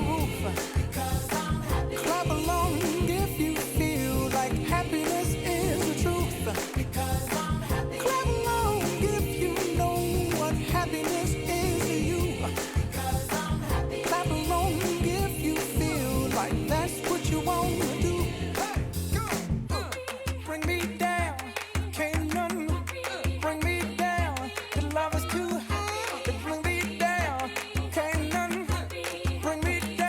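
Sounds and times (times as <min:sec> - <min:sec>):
pop song with singing: 0:00.0 - 0:30.0.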